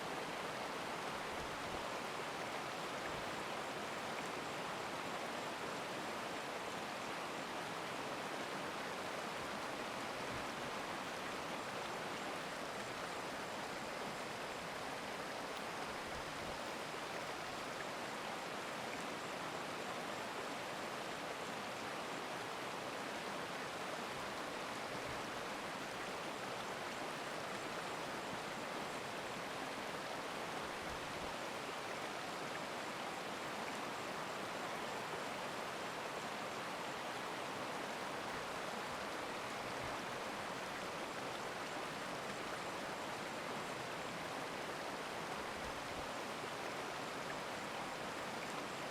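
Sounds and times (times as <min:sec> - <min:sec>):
stream water rushing: 0:00.0 - 0:48.9.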